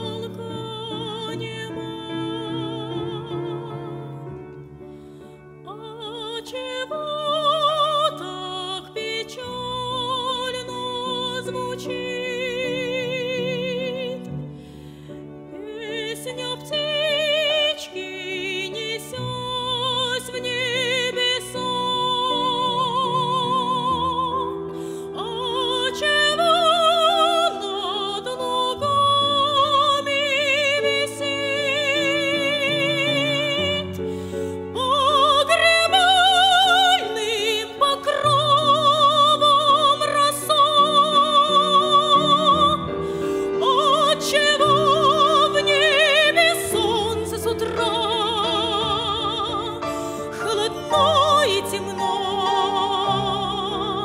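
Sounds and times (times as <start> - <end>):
woman singing operatically: 0.0 - 4.1, 5.7 - 14.3, 15.6 - 54.0.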